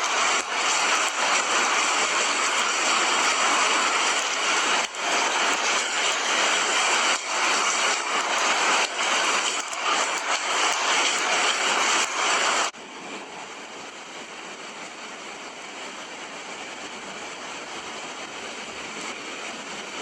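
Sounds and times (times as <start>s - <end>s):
steady heavy rain: 0.0s - 20.0s.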